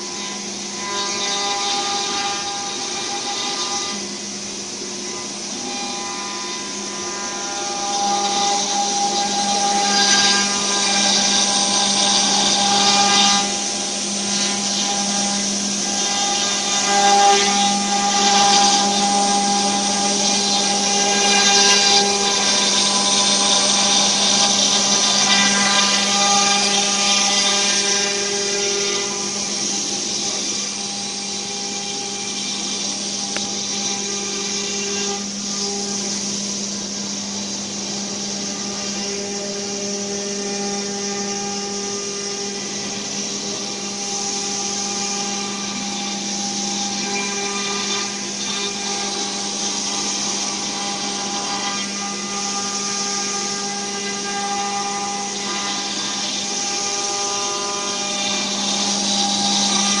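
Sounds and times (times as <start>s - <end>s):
router bit cutting wood hiss: 0.0s - 60.0s
router spindle whine: 0.0s - 60.0s.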